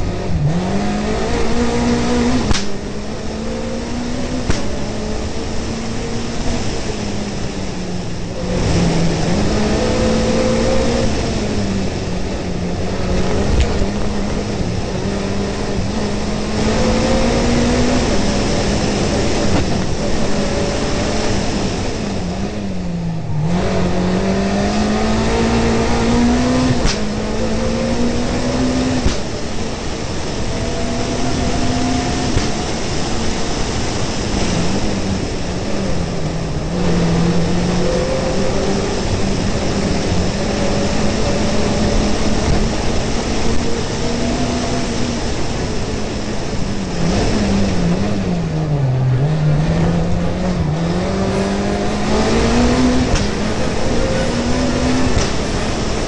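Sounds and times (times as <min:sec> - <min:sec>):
rally car engine revving: 0:00.0 - 0:56.0
tyre and road noise: 0:00.0 - 0:56.0.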